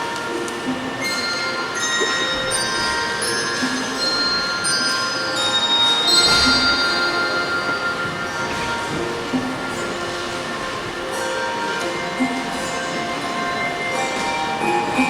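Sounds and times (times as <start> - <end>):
handbell choir playing: 0.0 - 15.0.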